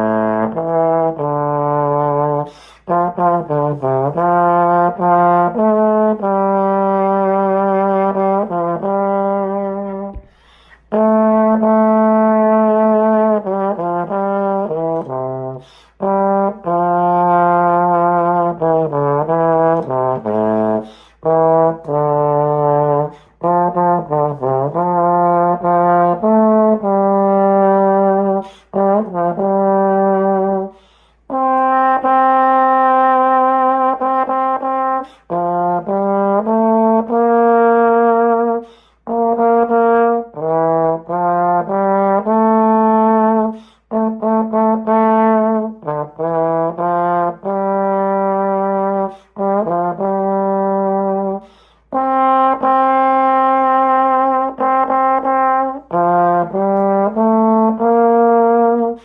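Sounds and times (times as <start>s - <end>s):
solo brass melody: 0.0s - 59.0s.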